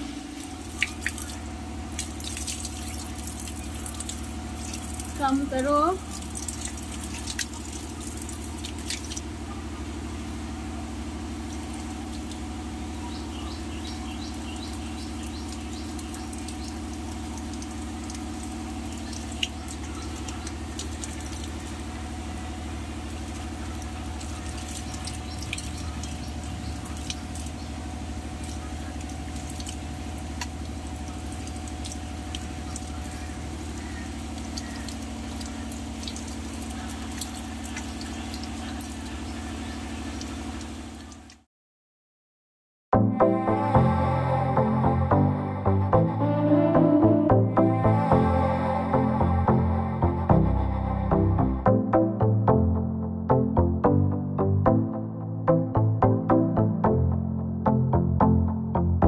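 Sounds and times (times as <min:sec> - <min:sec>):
low machine hum: 0:00.0 - 0:41.3, 0:43.0 - 0:59.0.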